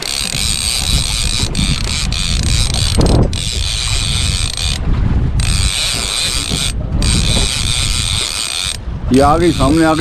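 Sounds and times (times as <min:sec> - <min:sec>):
fishing reel clicking and whirring: 0:00.0 - 0:10.0.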